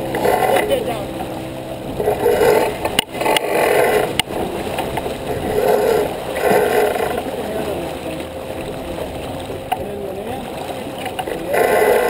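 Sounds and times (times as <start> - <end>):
water splashing along hull: 0.0 - 12.0.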